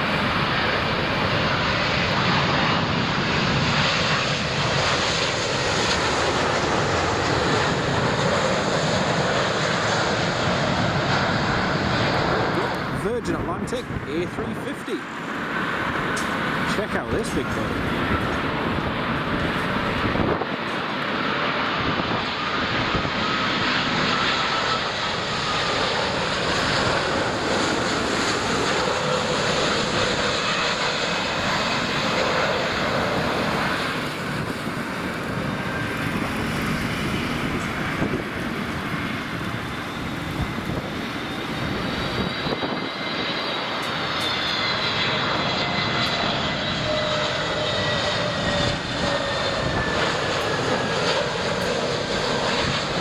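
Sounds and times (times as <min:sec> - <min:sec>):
jet engine roar with whine: 0:00.0 - 0:53.0.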